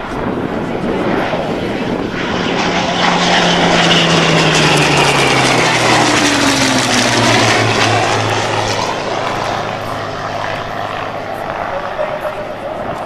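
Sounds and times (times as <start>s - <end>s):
propeller aircraft engines passing: 0.0s - 13.0s.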